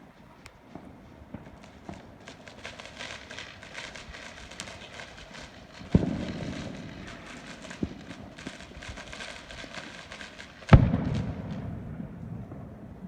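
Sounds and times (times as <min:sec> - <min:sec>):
fireworks crackling: 0:00.0 - 0:13.0
fireworks bangs: 0:00.6 - 0:13.0.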